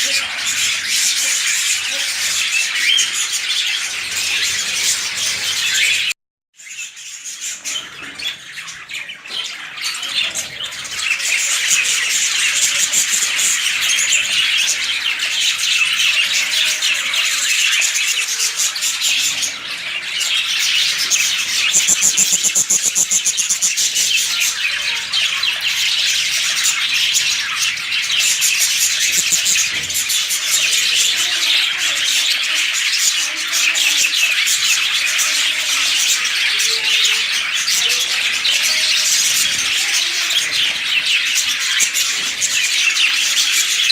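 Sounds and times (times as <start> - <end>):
lovebirds chattering and squawking: 0.0 - 43.9.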